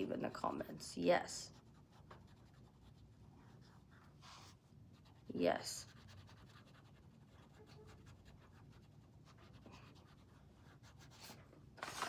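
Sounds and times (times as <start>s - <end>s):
crayon scratching on paper: 1.3s - 12.0s.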